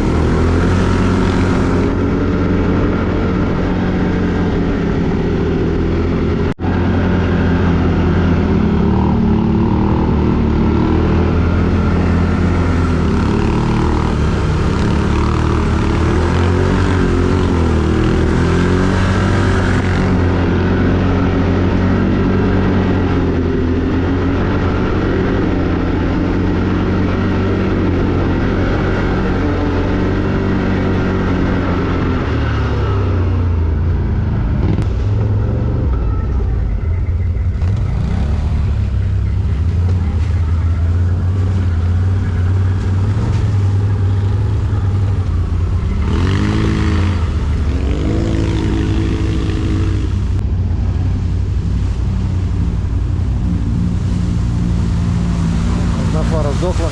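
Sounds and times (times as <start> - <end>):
quad bike engine: 0.0 - 56.9.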